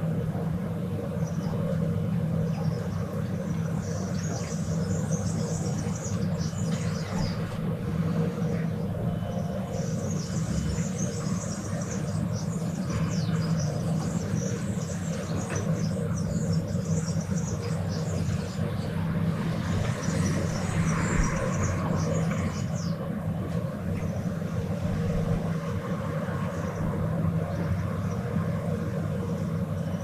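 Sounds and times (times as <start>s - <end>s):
birds chirping: 0.0s - 30.0s
distant traffic drone: 0.0s - 30.0s.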